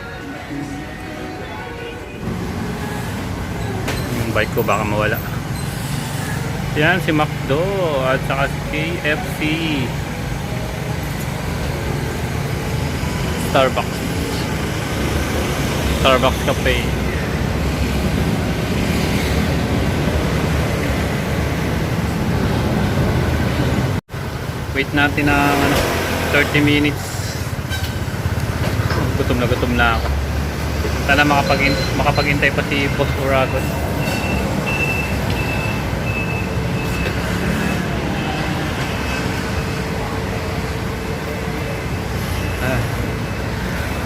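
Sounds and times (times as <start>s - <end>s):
street traffic rumble: 0.0s - 44.0s.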